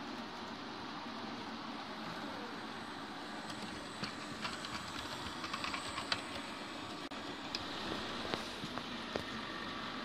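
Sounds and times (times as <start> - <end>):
model train running: 0.0 - 10.0.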